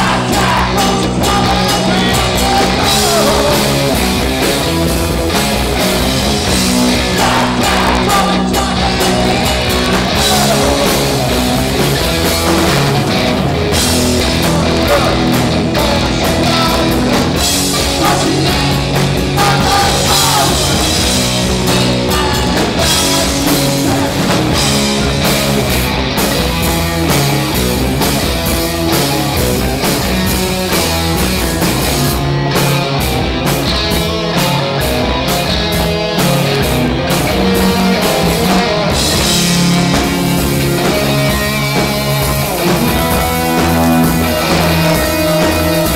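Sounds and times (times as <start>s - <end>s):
bass guitar: 0.0s - 45.9s
distorted electric guitars: 0.0s - 45.9s
drums: 0.0s - 45.9s.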